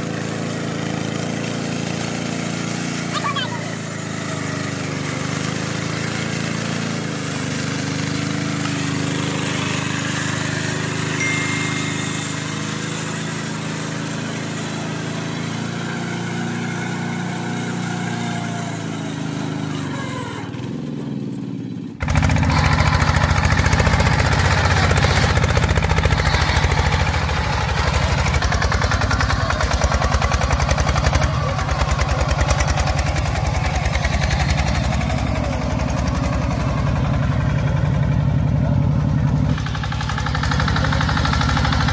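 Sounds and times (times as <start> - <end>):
diesel tiller engine running: 0.0 - 41.9.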